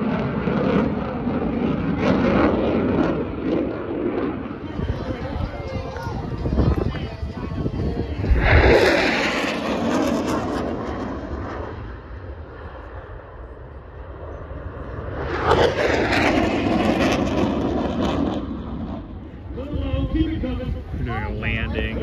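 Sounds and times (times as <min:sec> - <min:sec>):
aircraft engines flying past: 0:00.0 - 0:22.0.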